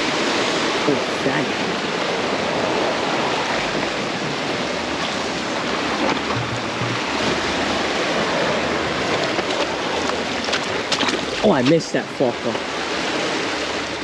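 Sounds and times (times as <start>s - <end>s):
ocean surf washing in: 0.0s - 14.0s.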